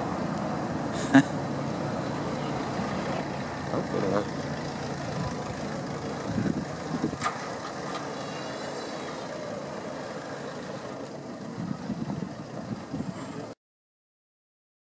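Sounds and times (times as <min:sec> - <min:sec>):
vehicle engine running: 0:00.0 - 0:13.5
city street traffic: 0:00.0 - 0:13.6.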